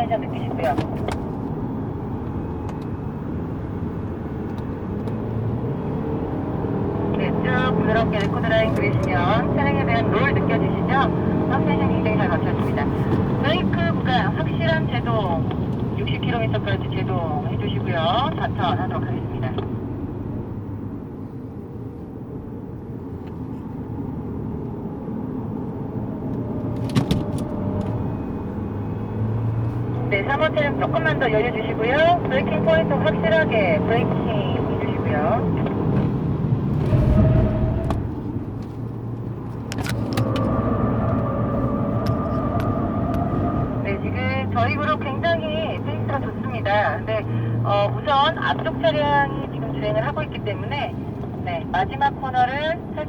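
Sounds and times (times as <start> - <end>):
car engine at speed: 0.0 - 53.0
tyre and road noise: 0.0 - 53.0.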